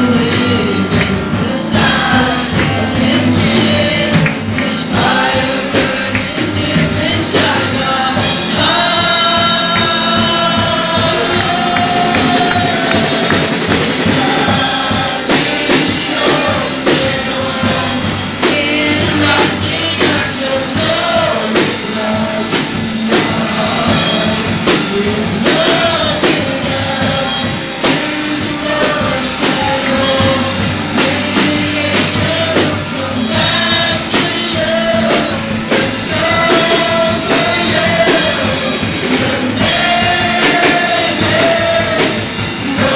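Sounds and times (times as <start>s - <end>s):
drum hits: 0.0s - 42.9s
live rock band playing: 0.0s - 42.9s
people singing: 0.0s - 42.9s.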